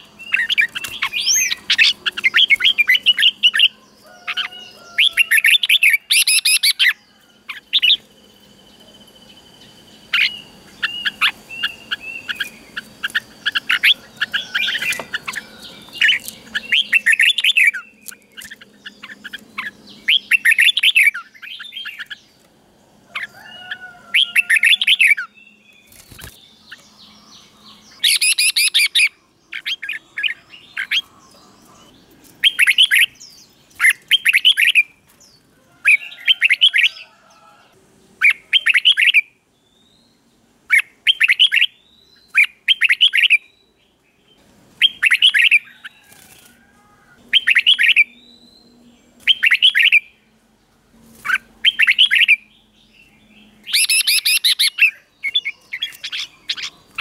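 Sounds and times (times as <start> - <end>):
bird chirping: 0.0 - 46.5, 47.1 - 57.0.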